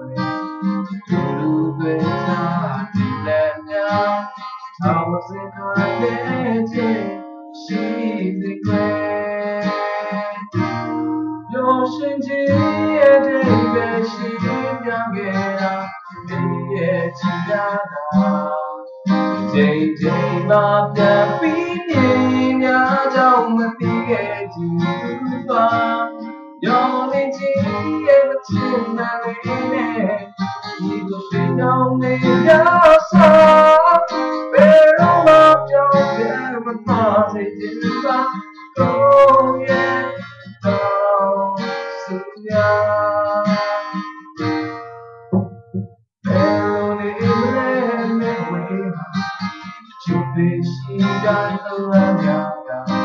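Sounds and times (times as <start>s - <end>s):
acoustic guitar playing: 0.0s - 53.0s.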